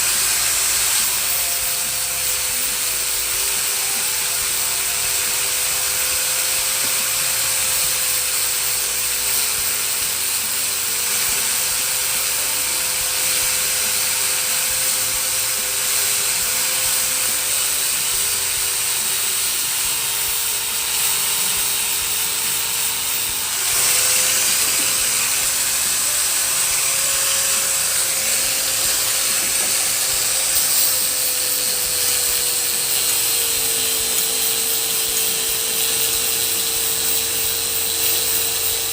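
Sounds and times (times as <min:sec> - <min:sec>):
mechanical whine with hiss: 0:00.0 - 0:38.9.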